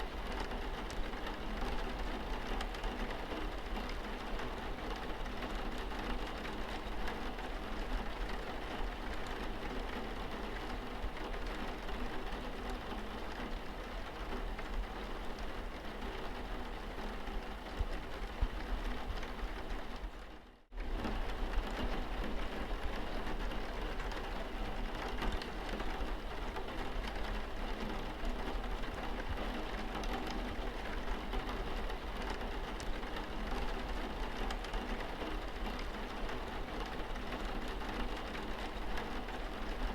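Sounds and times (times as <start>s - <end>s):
rain on car windscreen: 0.1s - 39.9s.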